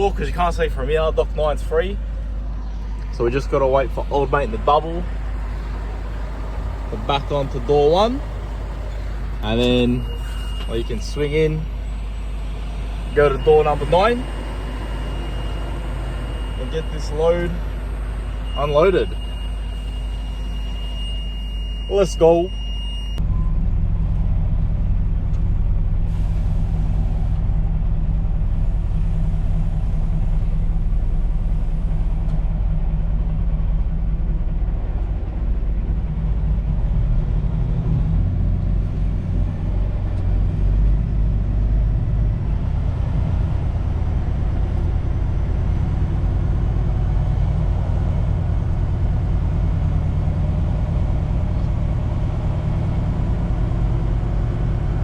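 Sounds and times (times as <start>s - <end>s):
truck diesel engine rumbling: 0.0s - 55.0s.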